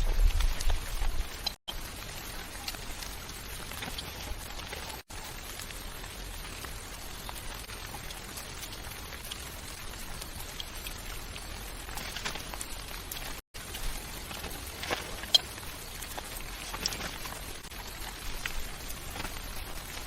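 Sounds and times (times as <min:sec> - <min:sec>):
raindrops ticking: 0:00.0 - 0:20.0
steady rain falling: 0:00.0 - 0:20.0.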